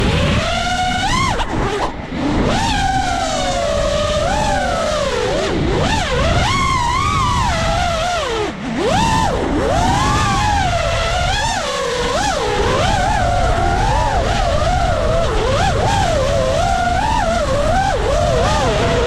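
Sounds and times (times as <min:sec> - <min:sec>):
drone motors whining: 0:00.0 - 0:19.0
wind buffeting microphone: 0:00.0 - 0:19.0.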